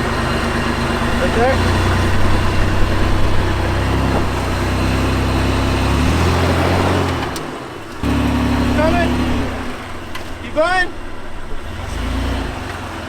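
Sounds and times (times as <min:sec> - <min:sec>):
vehicle engine at low revs: 0:00.0 - 0:13.0.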